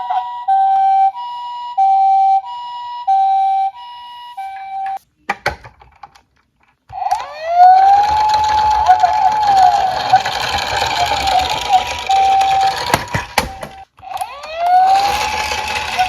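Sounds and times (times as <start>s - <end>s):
two-tone emergency siren: 0.0s - 5.0s, 7.1s - 16.0s
wailing siren: 0.0s - 5.0s, 7.0s - 16.0s.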